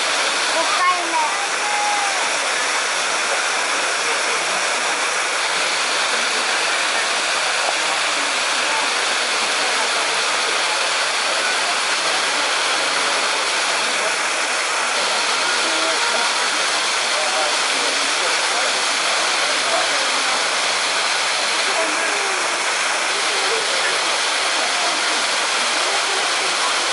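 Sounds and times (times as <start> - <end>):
running water hiss: 0.0 - 26.9.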